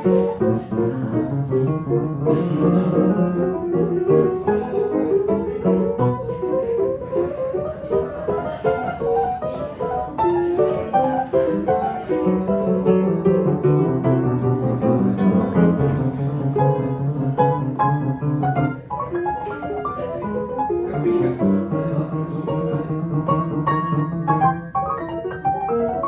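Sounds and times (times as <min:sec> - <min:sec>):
piano melody of quick notes: 0:00.0 - 0:26.0.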